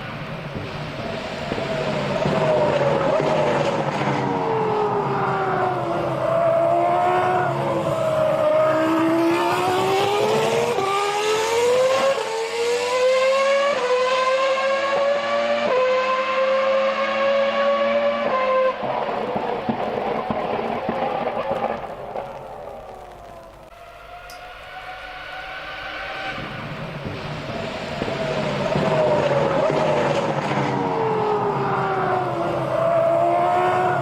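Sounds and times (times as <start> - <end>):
racing car engine at high revs: 0.0 - 21.8, 23.8 - 34.0.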